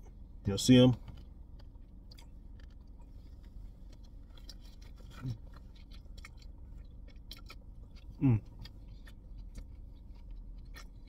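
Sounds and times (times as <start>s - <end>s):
person chewing noodles: 1.2s - 11.0s.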